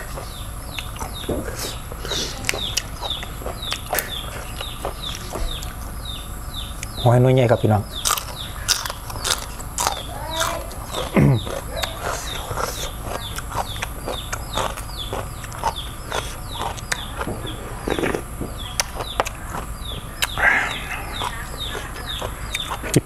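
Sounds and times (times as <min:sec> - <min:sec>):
eating clicks and smacks: 0:00.0 - 0:05.9, 0:08.0 - 0:23.0
chickens calling: 0:00.0 - 0:23.0.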